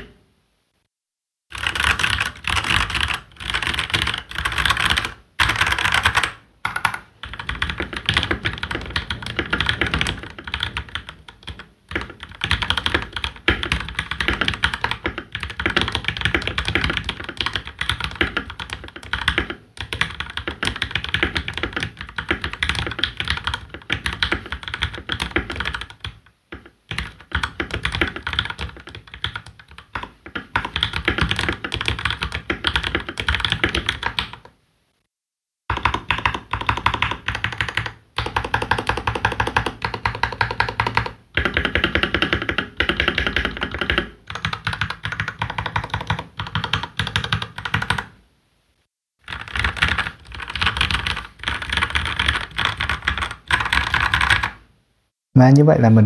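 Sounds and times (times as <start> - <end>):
fast typing on mechanical keyboard: 1.5 - 34.5, 35.7 - 48.1, 49.2 - 54.6.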